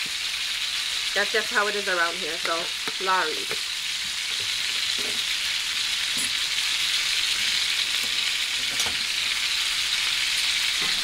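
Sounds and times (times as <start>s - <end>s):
steak sizzling in a pan: 0.0s - 11.0s.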